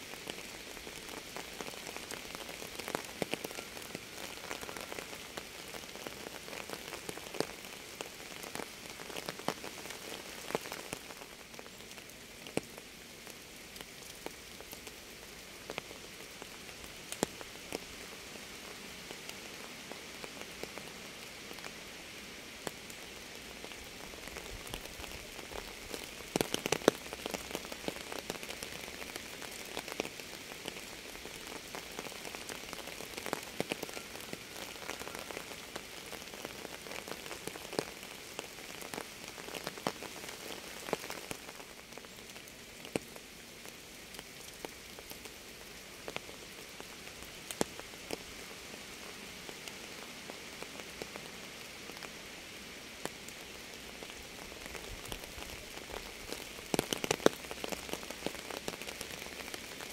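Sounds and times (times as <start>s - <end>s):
rain hissing: 0.0s - 59.9s
raindrops splatting on a surface: 0.1s - 21.9s, 22.6s - 59.9s.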